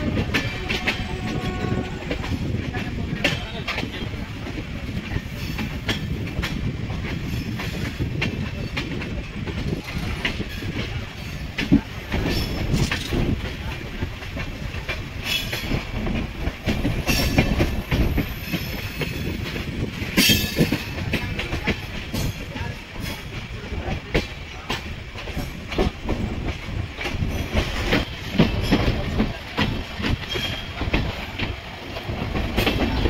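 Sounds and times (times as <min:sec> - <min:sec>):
train rumbling over tracks: 0:00.0 - 0:33.0
wheels clicking over rail joints: 0:00.0 - 0:33.0.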